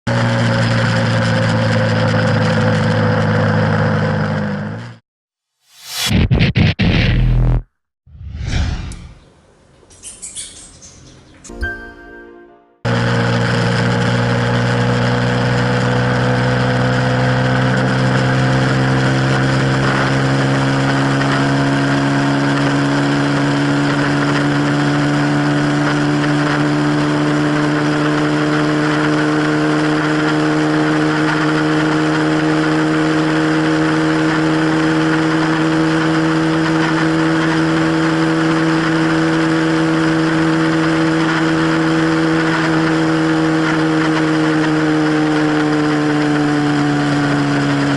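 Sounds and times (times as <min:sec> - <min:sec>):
motorcycle engine at high revs: 0:00.1 - 0:05.0, 0:12.9 - 0:47.9.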